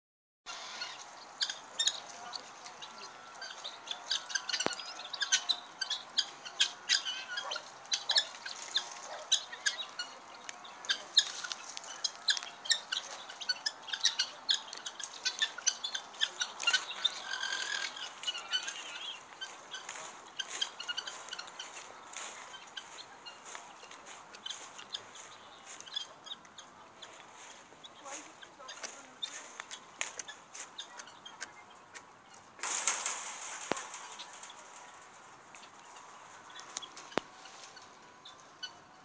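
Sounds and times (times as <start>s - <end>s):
birds chirping and squawking: 0.5s - 39.0s.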